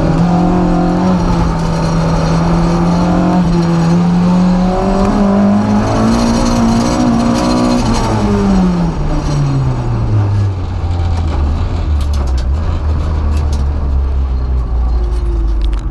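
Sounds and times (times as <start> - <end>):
car engine from inside cabin: 0.0 - 15.9.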